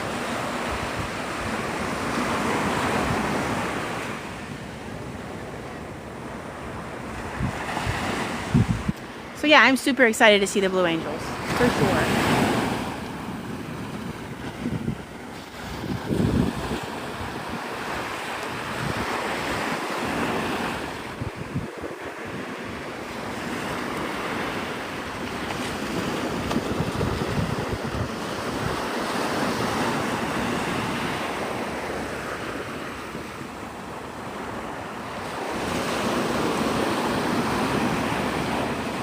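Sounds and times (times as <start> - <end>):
wind rumbling on microphone: 0.0 - 9.7, 11.0 - 39.0
surf breaking on beach: 0.0 - 39.0.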